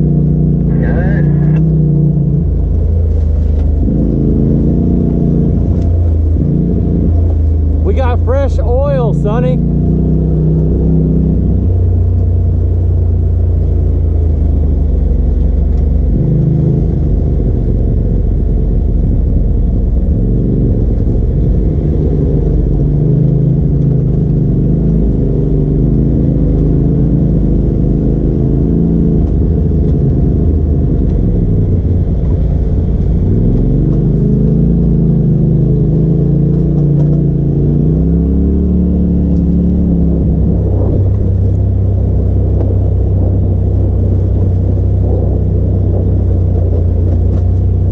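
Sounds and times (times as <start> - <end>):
engine revving under load: 0.0 - 47.9.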